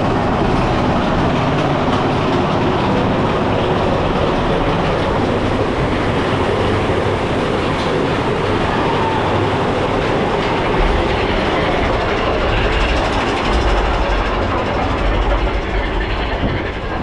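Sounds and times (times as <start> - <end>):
roller coaster wheels rattling on rails: 0.0 - 17.0.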